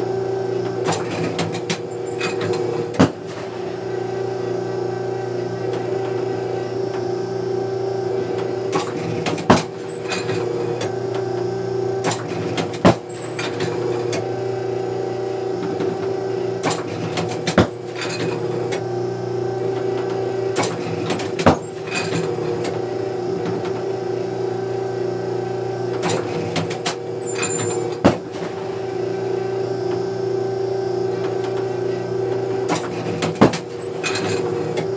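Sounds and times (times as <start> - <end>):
trap machine humming: 0.0 - 34.9.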